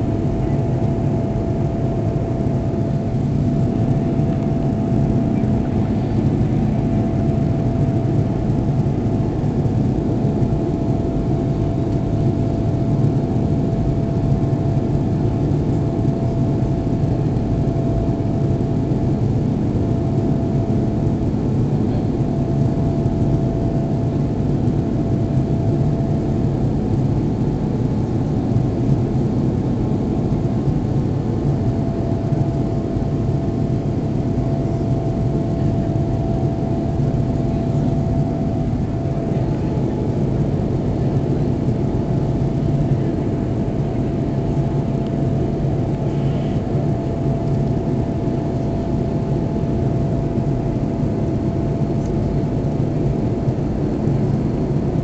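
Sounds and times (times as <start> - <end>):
airliner cabin engine drone: 0.0 - 55.0
faint steady whine: 0.0 - 55.0.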